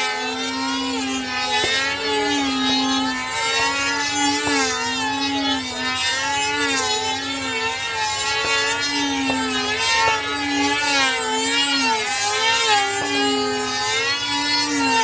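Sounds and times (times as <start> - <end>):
model airplane engines whining: 0.0 - 15.0.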